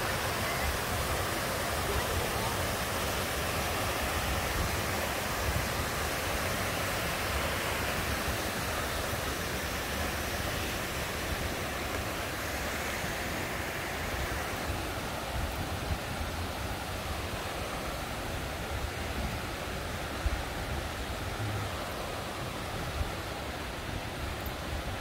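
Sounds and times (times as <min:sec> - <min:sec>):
water rushing over rocks: 0:00.0 - 0:25.0.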